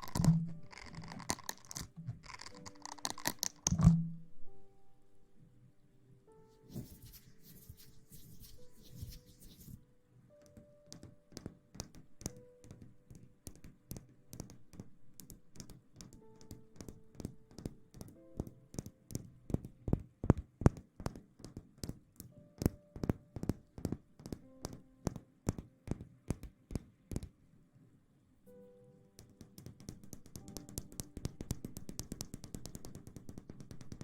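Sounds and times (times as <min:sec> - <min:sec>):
soft background music: 0:00.0 - 0:34.0.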